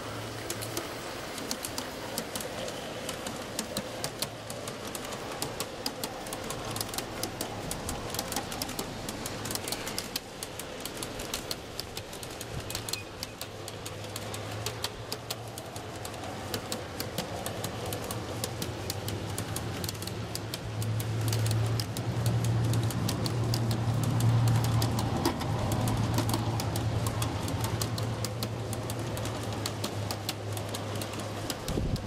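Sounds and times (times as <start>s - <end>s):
model train rumble: 0.0s - 32.0s
wheels clicking over rail joints: 0.0s - 32.0s.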